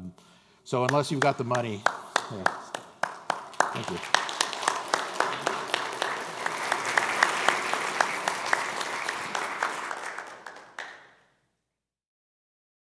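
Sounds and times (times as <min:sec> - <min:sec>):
audience applauding: 0:00.8 - 0:11.2.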